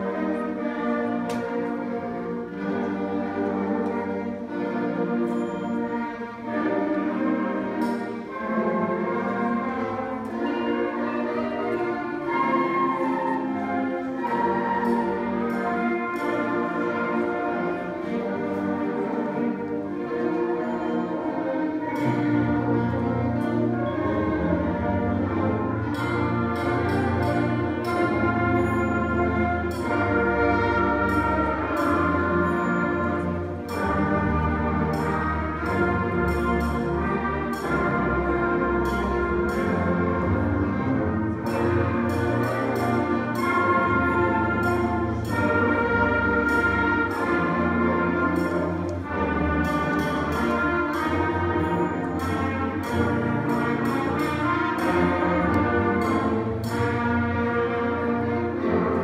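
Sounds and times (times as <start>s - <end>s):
percussion strokes: 0.0s - 59.0s.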